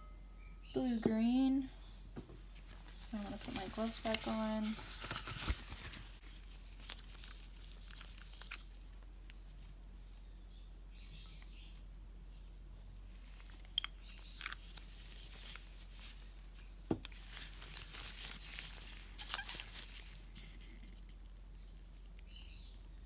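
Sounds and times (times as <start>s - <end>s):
soft rustling of clay handling: 0.9s - 11.6s, 12.3s - 23.0s.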